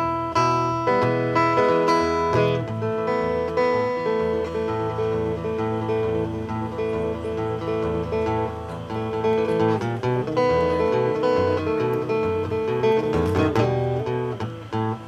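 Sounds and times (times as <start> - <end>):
acoustic guitars playing: 0.0 - 15.0.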